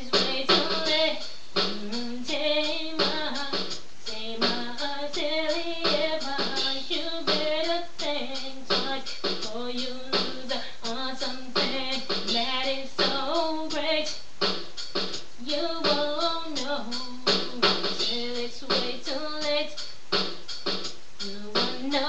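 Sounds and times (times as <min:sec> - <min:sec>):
woman singing: 0:00.0 - 0:14.2, 0:15.4 - 0:19.8, 0:21.2 - 0:22.0
backing track with steady beat: 0:00.0 - 0:22.0.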